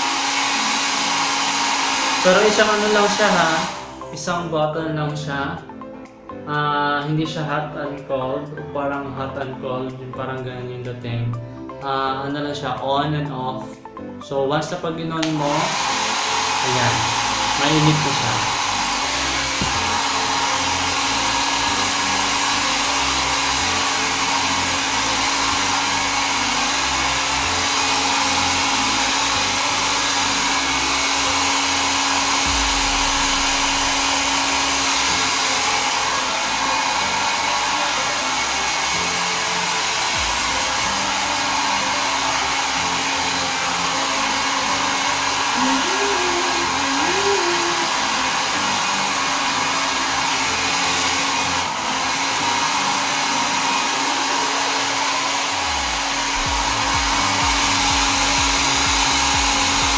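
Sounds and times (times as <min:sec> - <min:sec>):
hair dryer blowing air: 0:00.0 - 0:04.4, 0:15.2 - 0:59.9.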